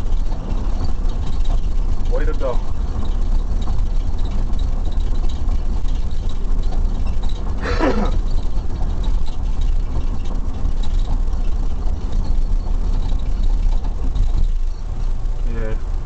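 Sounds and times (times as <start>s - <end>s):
car engine rumble and road noise: 0.0s - 16.0s.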